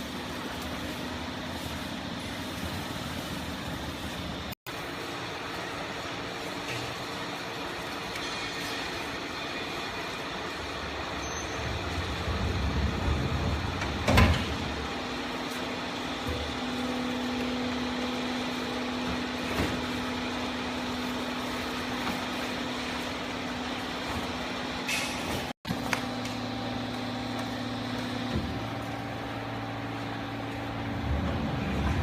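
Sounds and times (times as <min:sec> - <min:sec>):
baling press machine noise: 0:00.0 - 0:32.0.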